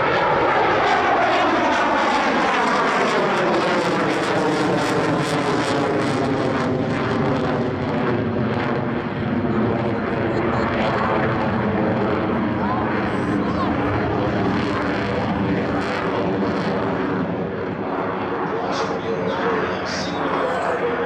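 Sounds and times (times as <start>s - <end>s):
jet engines in afterburner: 0.0s - 21.0s.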